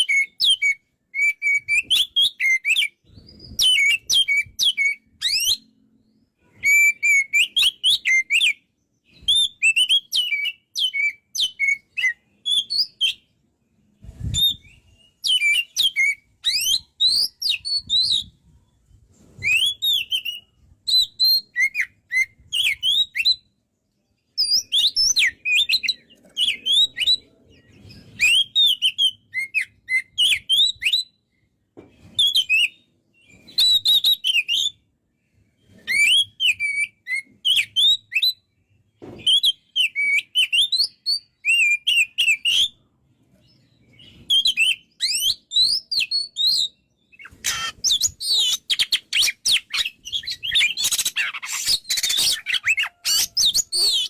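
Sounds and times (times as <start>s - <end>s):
songbird whistling and chirping: 0.0s - 54.0s.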